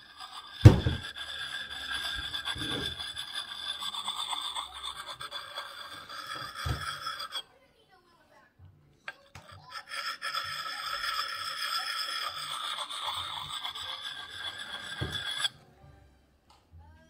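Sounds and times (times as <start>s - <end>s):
stone scraping steel: 0.0s - 7.5s, 9.1s - 15.6s.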